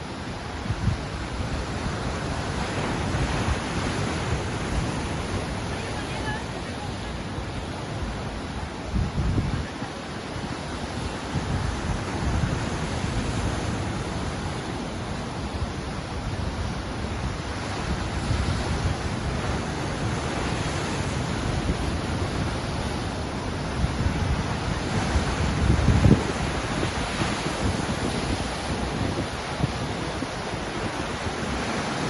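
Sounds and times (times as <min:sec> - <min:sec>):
ocean waves breaking: 0:00.0 - 0:32.0.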